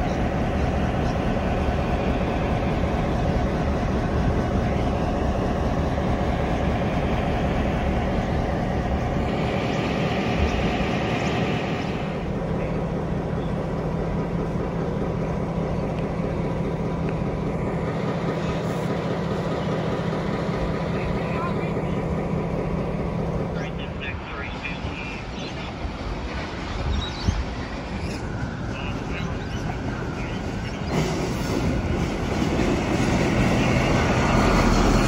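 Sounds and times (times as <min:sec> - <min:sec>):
locomotives rumbling past: 0:00.0 - 0:35.0
steady diesel engine drone: 0:00.0 - 0:35.0.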